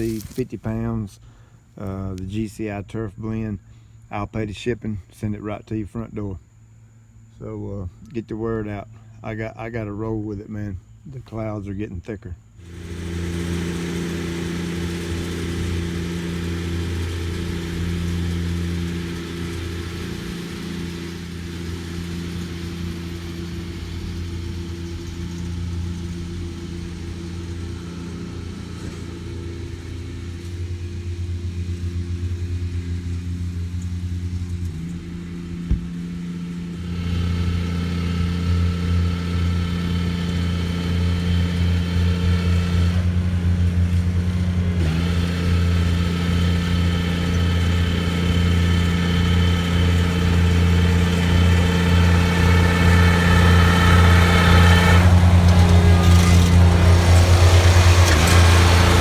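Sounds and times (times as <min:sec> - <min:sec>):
lawn machine engine running: 0:00.0 - 0:02.3, 0:12.5 - 0:59.0
higher engine whine: 0:00.0 - 0:59.0.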